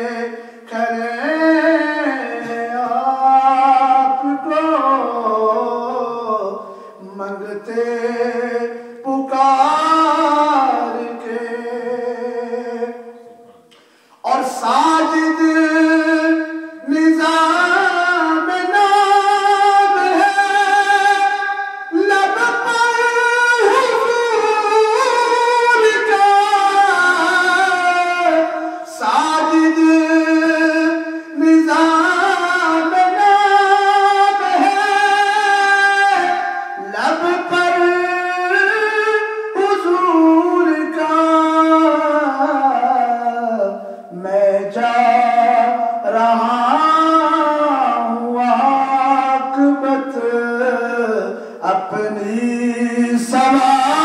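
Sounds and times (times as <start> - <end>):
man singing unaccompanied: 0.0 - 54.0.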